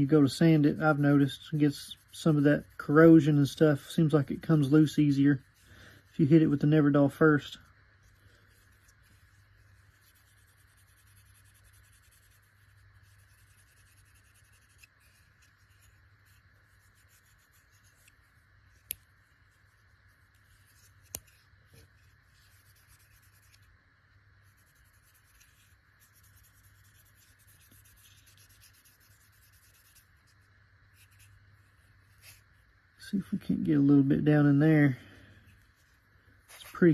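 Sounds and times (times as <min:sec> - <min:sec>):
faint rubbing on a knife: 0:00.0 - 0:36.9.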